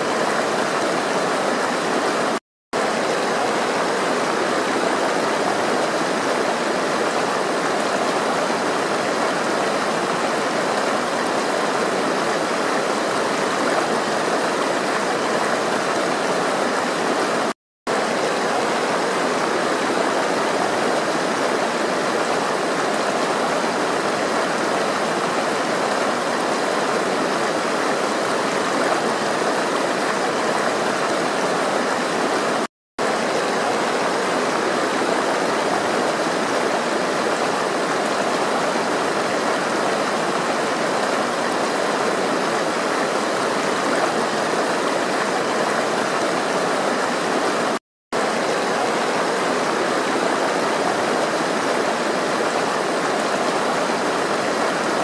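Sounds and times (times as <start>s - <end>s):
water flowing steadily: 0.0s - 55.0s.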